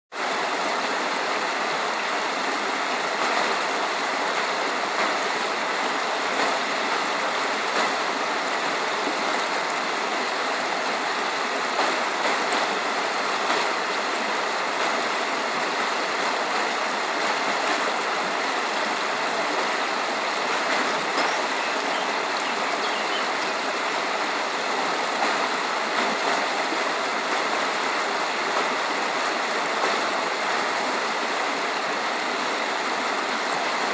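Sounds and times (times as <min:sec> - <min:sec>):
water rushing over a weir: 0:00.1 - 0:33.9.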